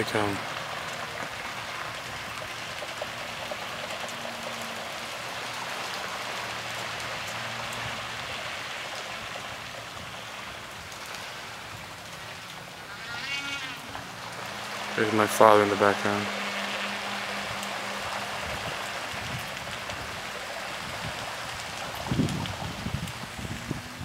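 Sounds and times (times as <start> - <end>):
birds splashing across water: 0.0 - 24.0.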